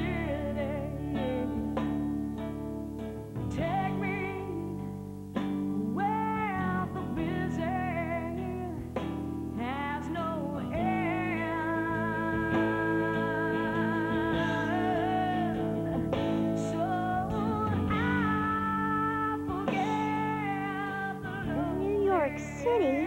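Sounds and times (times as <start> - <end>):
person singing: 0.0 - 2.2, 3.5 - 5.0, 5.6 - 23.0
guitar accompaniment: 0.0 - 23.0.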